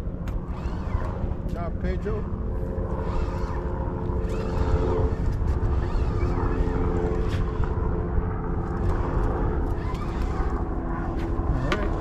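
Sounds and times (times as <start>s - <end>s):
engine drone: 0.0s - 12.0s
wind buffeting microphone: 0.0s - 12.0s.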